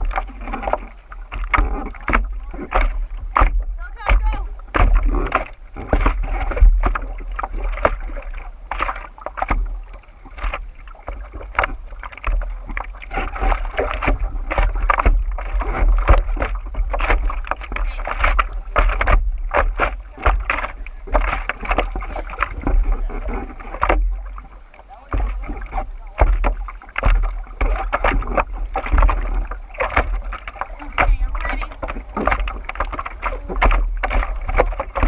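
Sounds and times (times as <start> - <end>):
water sloshing and splashing: 0.0 - 35.0.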